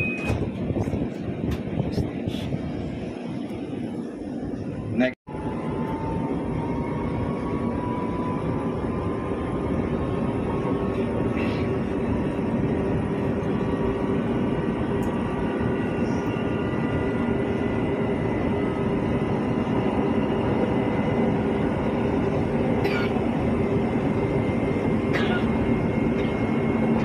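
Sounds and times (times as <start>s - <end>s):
metro train running rumble: 0.0s - 27.0s.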